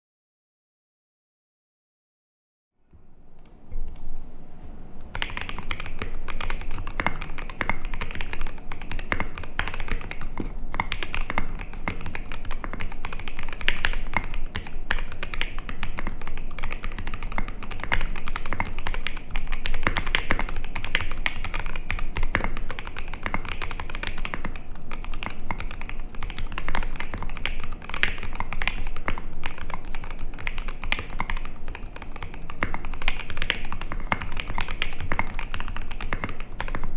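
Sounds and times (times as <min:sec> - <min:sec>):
mechanical keyboard typing: 0:05.0 - 0:36.9.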